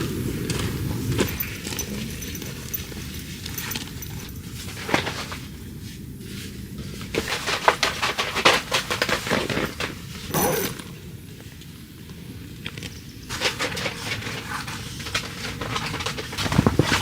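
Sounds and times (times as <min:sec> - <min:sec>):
rustling and crackling: 0:00.0 - 0:10.9, 0:12.6 - 0:17.0.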